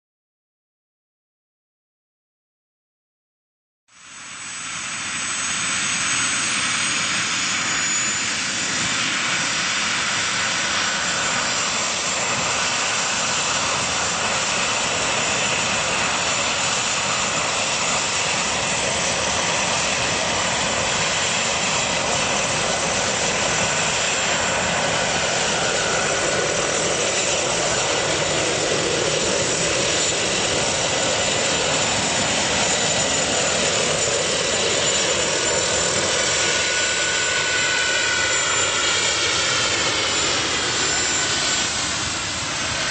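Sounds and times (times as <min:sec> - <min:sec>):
model helicopter jet turbine: 0:03.9 - 0:42.9.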